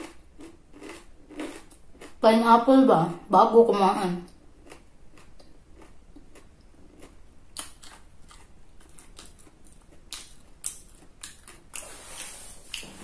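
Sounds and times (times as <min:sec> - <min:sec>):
food being bitten and chewed: 0:00.0 - 0:02.2, 0:04.3 - 0:13.0.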